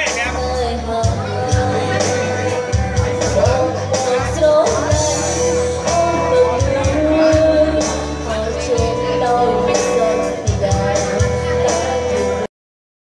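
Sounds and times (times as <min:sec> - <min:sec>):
amplified backing music with drums: 0:00.0 - 0:12.5
woman singing into microphone: 0:00.0 - 0:12.5.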